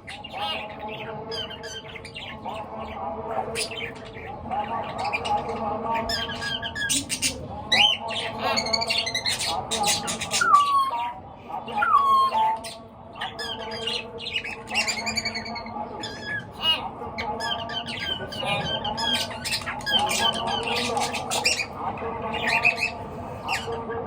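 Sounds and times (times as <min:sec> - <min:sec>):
birds chirping and squawking: 0:00.0 - 0:24.0.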